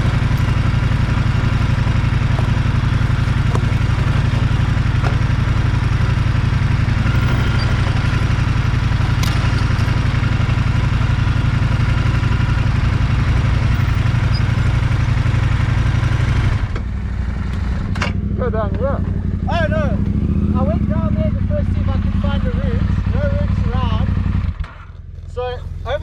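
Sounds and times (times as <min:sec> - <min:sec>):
motorcycle engine low rumble: 0:00.0 - 0:26.0.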